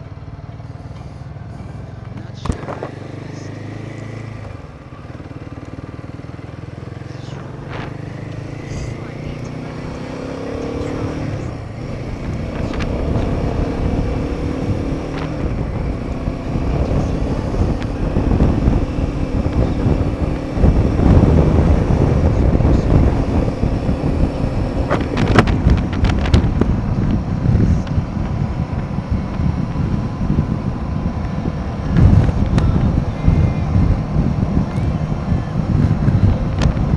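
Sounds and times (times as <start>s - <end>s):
motorcycle engine running: 0.0s - 36.9s
wind rush on microphone: 7.1s - 36.9s.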